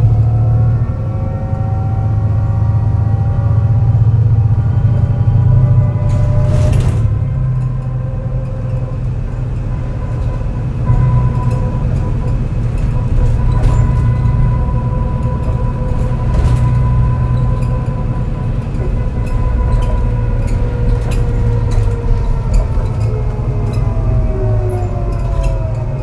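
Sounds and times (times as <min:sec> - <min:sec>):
bus engine misfiring under load: 0:00.0 - 0:26.0
gearbox whine: 0:00.0 - 0:26.0.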